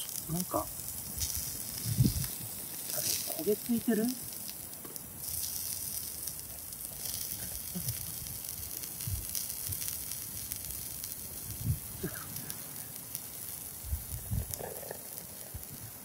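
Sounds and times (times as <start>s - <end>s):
fish sizzling on metal plate: 0.0s - 16.0s.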